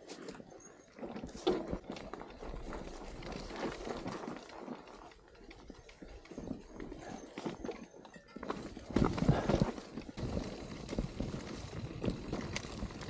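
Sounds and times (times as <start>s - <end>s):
bike rattling over stony trail: 0.0s - 13.0s.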